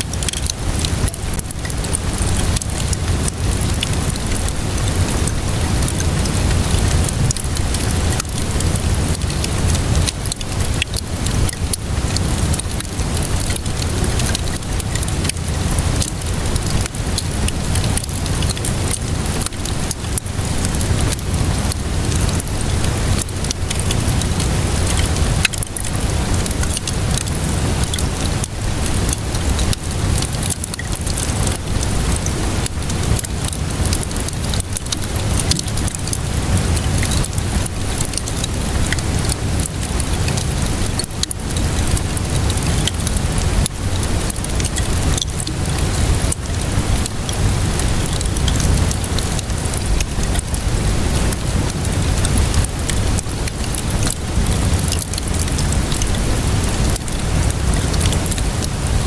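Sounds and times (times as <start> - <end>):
steady rainfall: 0.0 - 59.0
fire crackling: 0.1 - 59.0.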